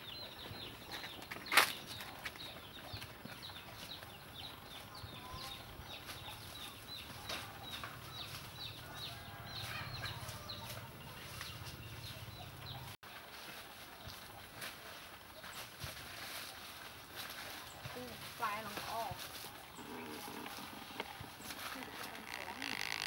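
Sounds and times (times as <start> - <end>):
birds chirping: 0.0 - 13.2, 16.4 - 23.0.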